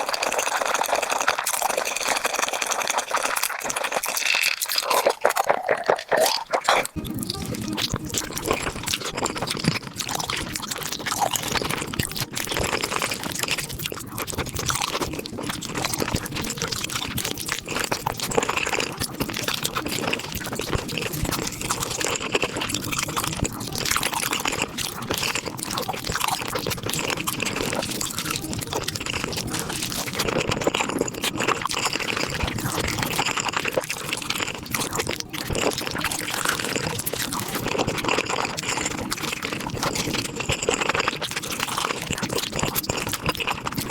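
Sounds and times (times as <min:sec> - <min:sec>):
wet crunchy chewing: 0:00.0 - 0:43.9.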